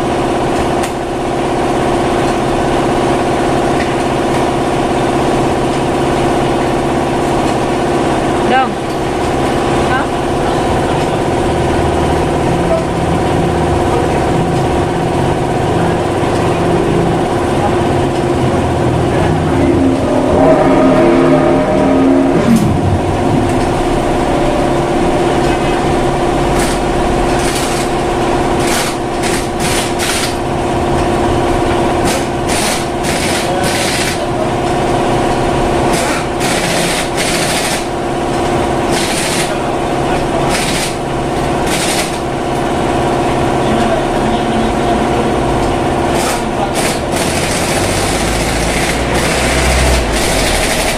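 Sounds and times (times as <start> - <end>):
machine hum: 0.0 - 50.9.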